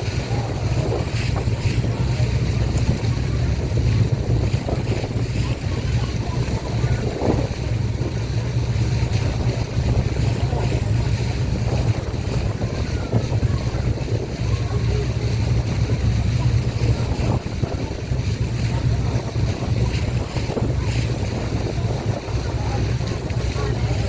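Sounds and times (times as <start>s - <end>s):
boat engine humming: 0.0s - 24.0s
rushing water: 0.0s - 24.0s
wind: 0.0s - 24.0s.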